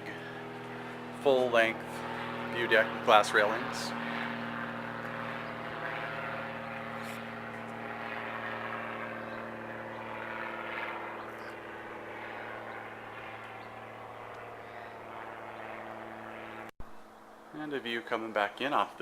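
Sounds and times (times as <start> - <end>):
steady motor drone: 0.0 - 19.0.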